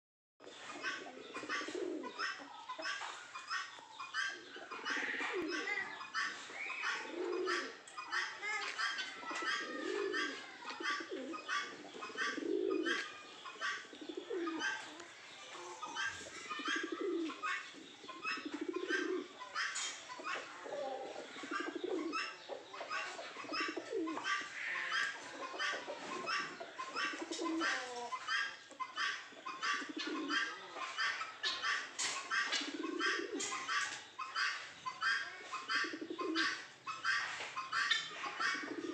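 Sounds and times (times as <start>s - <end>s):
pigeons cooing: 0.4s - 38.9s.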